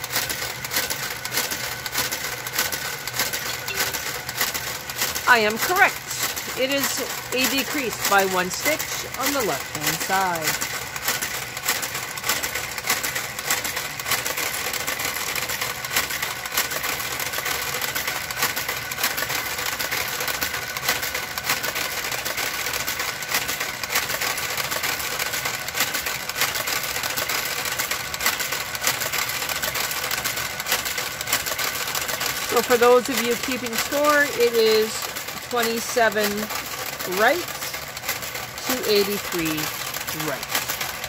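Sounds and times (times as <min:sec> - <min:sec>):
knitting carriage motor whir: 0:00.0 - 0:41.0.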